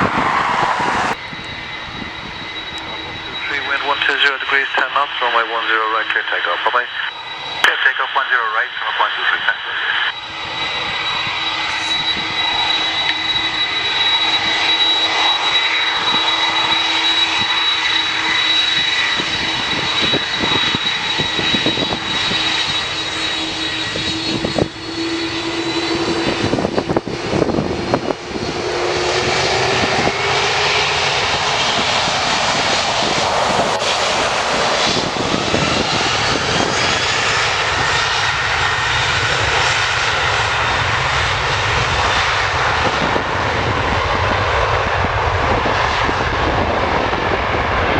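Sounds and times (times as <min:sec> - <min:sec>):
jet engines at takeoff power: 0:00.0 - 0:47.9.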